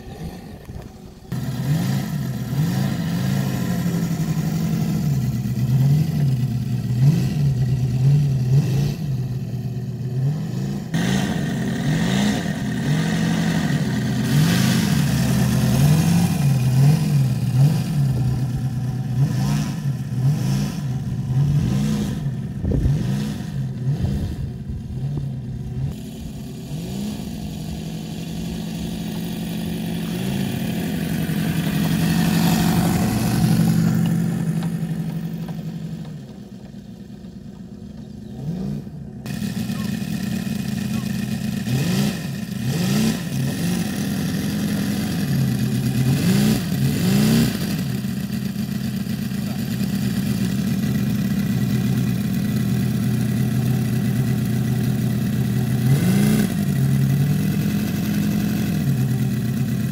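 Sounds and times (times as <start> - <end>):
radial engine revving: 0.0 - 36.3, 38.2 - 59.9.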